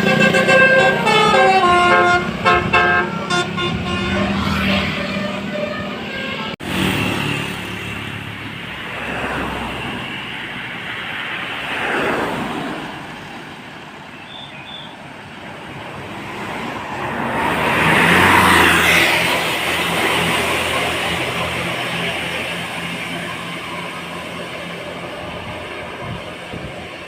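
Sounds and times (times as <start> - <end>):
vehicles passing by: 0.0 - 27.0.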